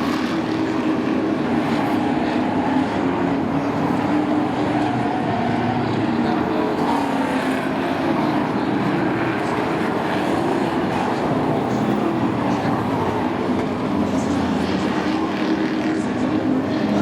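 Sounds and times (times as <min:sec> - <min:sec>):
racing truck engines at speed: 0:00.0 - 0:17.0.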